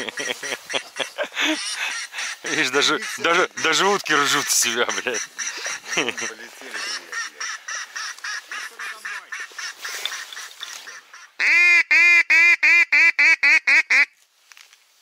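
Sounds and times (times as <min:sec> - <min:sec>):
duck quacking: 0:01.5 - 0:14.1.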